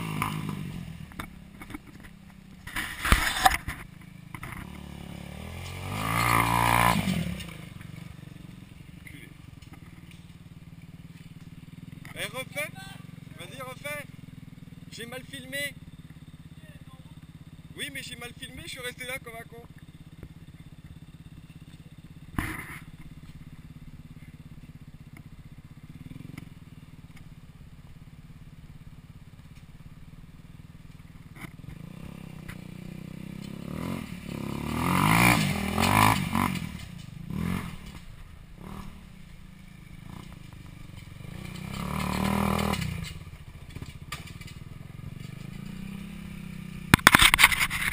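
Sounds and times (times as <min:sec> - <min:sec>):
quad bike engines revving: 0:00.0 - 0:47.9.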